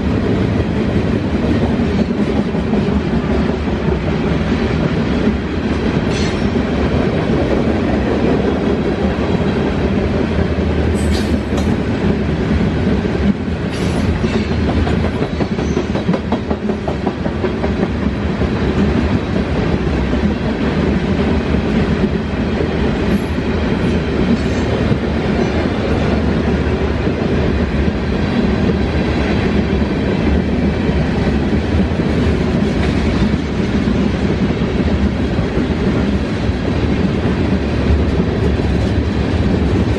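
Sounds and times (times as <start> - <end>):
clickety-clack over rail joints: 0.0 - 39.9
train wheels rumbling: 0.0 - 39.9.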